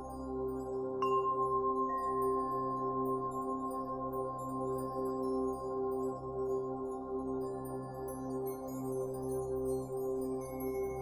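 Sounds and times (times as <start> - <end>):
ambient music with sustained tones: 0.0 - 11.0.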